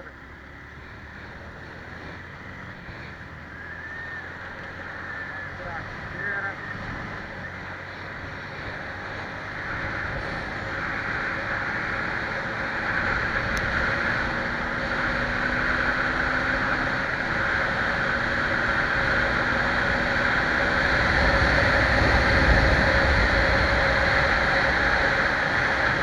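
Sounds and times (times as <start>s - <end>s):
diesel truck driving: 0.0s - 26.0s.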